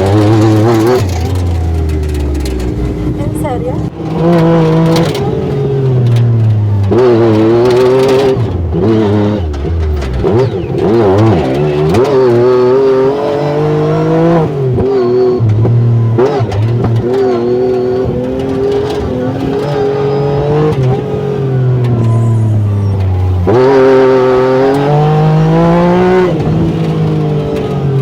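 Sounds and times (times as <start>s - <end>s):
utility vehicle engine revving: 0.0s - 28.0s.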